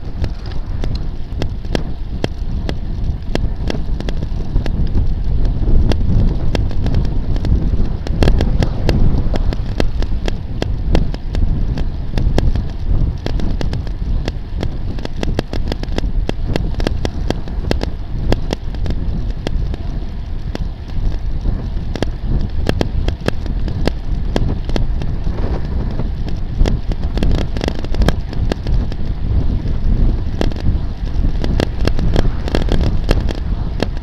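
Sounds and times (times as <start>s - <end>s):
low road rumble: 0.0s - 34.0s
sharp clicks and rattles: 0.0s - 34.0s
wind on microphone: 0.0s - 34.0s.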